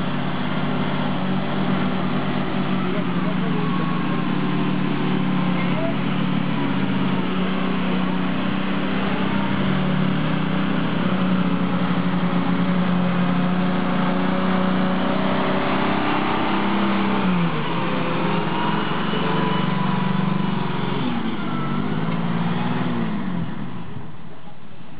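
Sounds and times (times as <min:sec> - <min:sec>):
truck engine running: 0:00.0 - 0:24.9.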